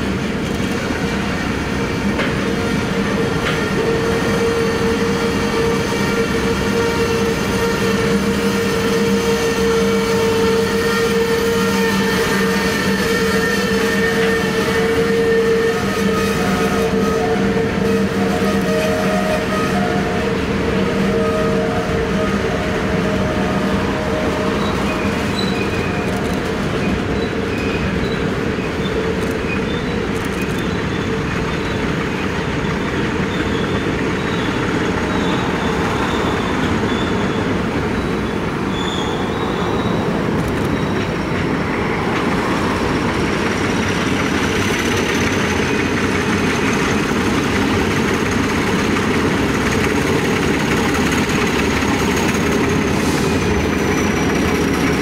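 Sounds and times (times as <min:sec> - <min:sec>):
diesel locomotive engines: 0:00.0 - 0:55.0
wheels rumbling on rail: 0:00.0 - 0:55.0
high wheel squeals: 0:02.6 - 0:55.0.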